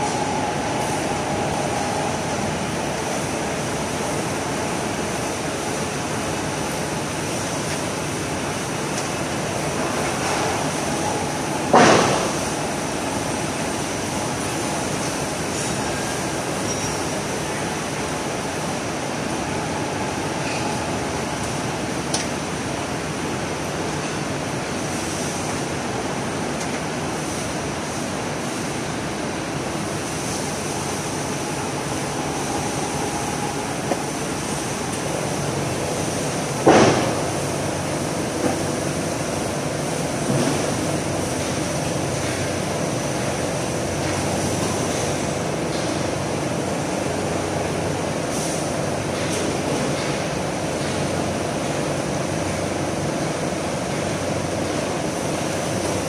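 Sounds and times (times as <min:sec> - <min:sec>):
factory machinery and ventilation: 0:00.0 - 0:56.0.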